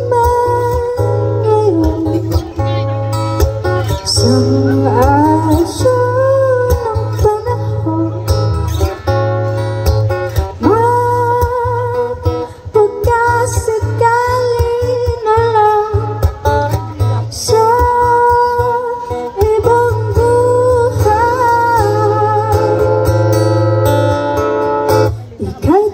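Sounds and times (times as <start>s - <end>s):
woman singing: 0.0s - 9.0s, 10.6s - 23.6s, 25.4s - 25.9s
acoustic guitar strumming: 0.0s - 25.9s.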